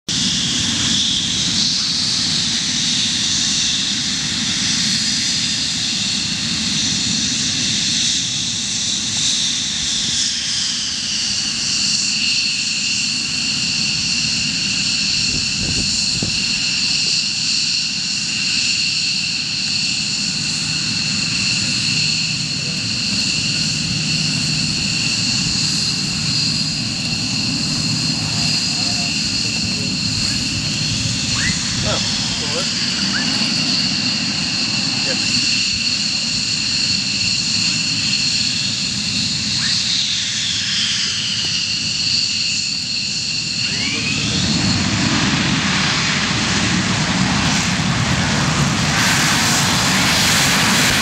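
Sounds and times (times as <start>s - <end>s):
jet turbine whine: 0.1s - 51.0s
low jet rumble: 0.1s - 51.0s.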